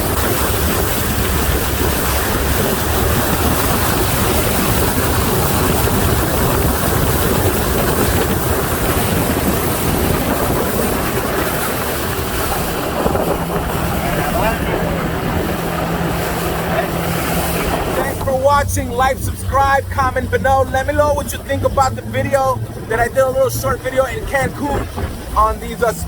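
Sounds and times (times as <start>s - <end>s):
rush of wind and water: 0.0s - 26.0s
speedboat motor: 0.0s - 26.0s.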